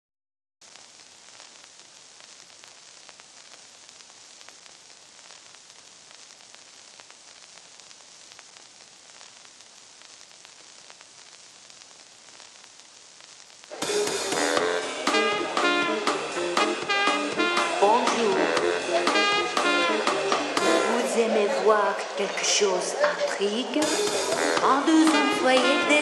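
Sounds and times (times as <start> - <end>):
film soundtrack hiss and crackles: 0.6 - 26.0.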